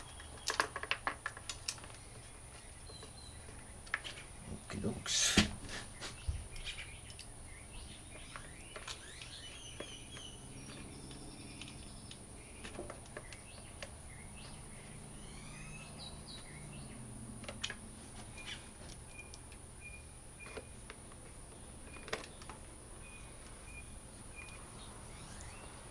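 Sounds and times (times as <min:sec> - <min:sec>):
birds chirping faintly: 0:00.0 - 0:25.9.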